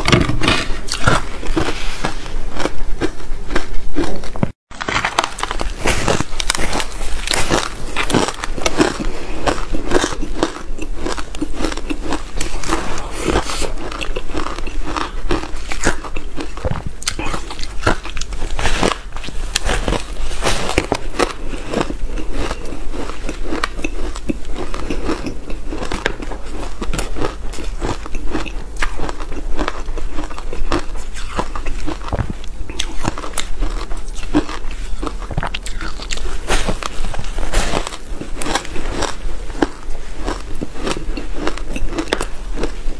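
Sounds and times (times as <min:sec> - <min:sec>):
ice crunching while chewing: 0:00.0 - 0:42.9.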